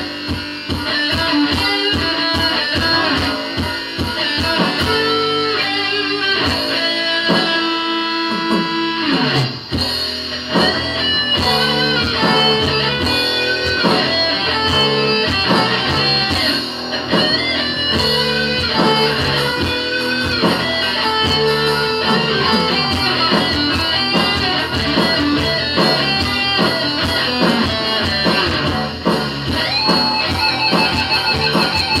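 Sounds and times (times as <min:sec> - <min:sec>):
electric guitar with bent notes: 0:00.0 - 0:32.0.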